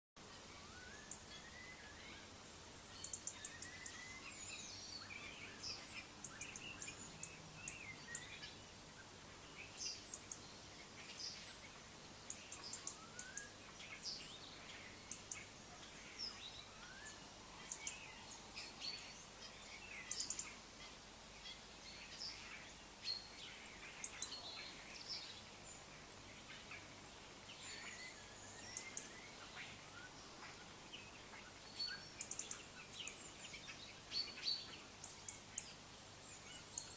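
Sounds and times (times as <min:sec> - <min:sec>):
faint steady hiss: 0:00.2 - 0:36.9
small birds chirping: 0:00.2 - 0:36.9.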